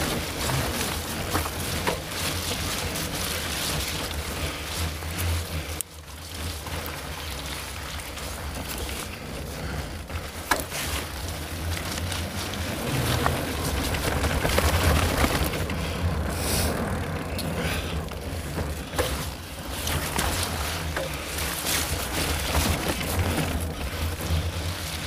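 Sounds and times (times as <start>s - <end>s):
bike clicks and rattles: 0.0s - 25.0s
bike tyres rolling on gravel: 0.0s - 25.0s.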